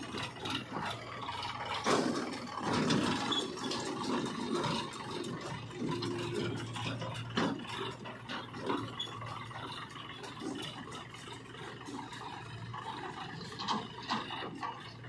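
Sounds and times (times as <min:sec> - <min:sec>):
clattering and rattling: 0:00.0 - 0:15.0
tractor diesel engine humming: 0:00.0 - 0:15.0.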